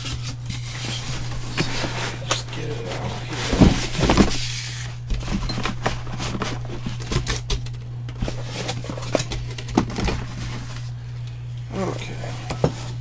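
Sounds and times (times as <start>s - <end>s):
steady low hum: 0.0s - 13.0s
packaging rustling: 0.4s - 11.0s.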